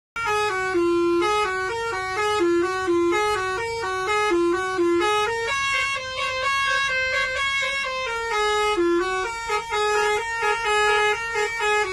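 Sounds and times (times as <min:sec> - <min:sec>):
bus musical horn: 0:00.2 - 0:11.9.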